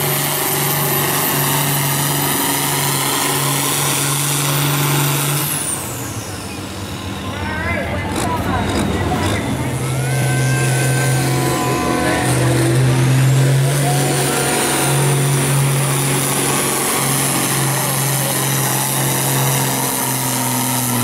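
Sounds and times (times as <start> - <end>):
diesel tractor engine at full throttle: 0.0 - 21.0.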